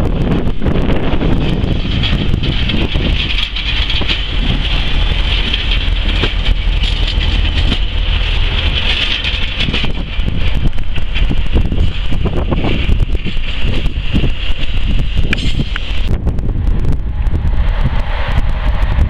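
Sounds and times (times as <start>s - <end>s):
train heavy low rumble: 0.0s - 19.0s.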